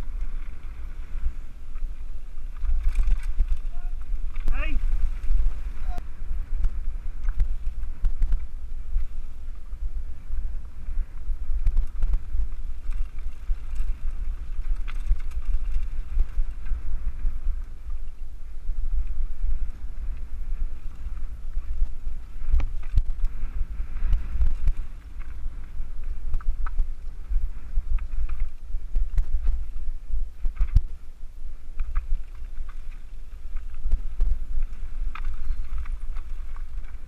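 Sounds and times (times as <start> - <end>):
bike knocking and rattling: 0.0 - 9.6, 11.2 - 18.2, 18.8 - 31.0, 31.7 - 37.0
tyres on rocky dirt trail: 0.0 - 37.0
wind buffeting microphone: 0.0 - 37.0.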